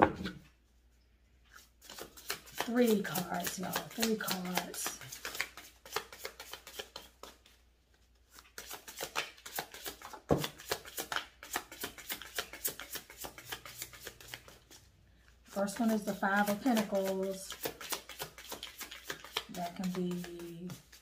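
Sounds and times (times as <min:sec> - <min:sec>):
cards being shuffled by hand: 0:01.4 - 0:21.0.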